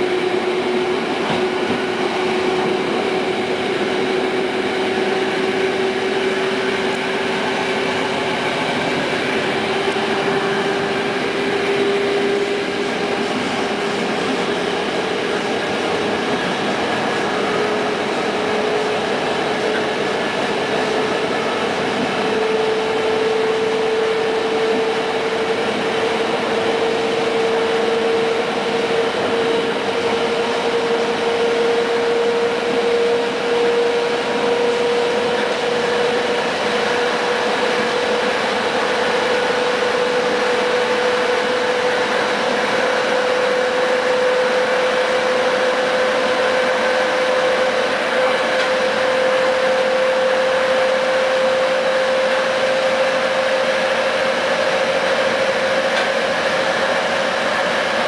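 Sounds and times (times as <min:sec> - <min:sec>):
rising whine: 0:00.0 - 0:58.0
train running noise: 0:00.0 - 0:58.0.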